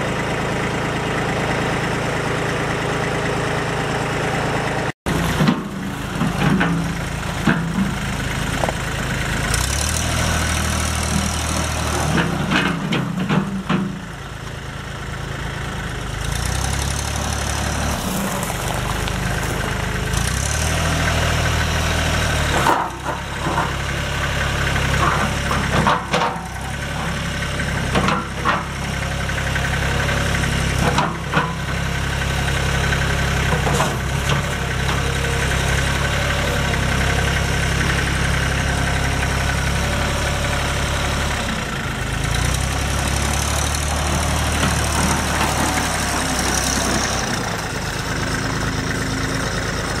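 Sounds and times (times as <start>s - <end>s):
tractor engine idling: 0.0s - 50.0s.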